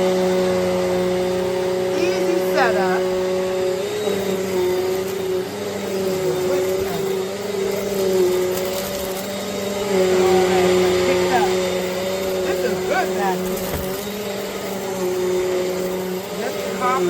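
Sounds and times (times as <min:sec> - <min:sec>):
upright vacuum cleaner running: 0:00.0 - 0:17.0.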